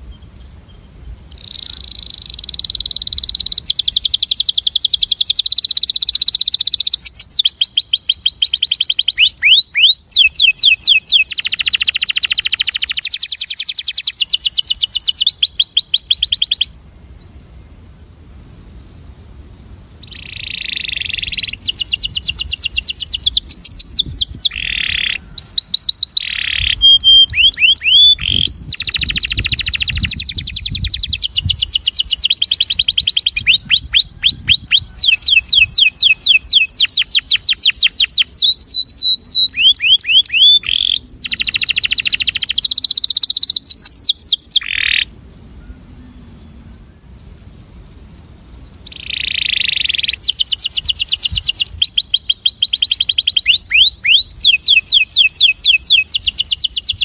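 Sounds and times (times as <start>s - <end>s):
canary singing: 1.3s - 16.7s, 20.0s - 45.1s, 48.6s - 57.0s.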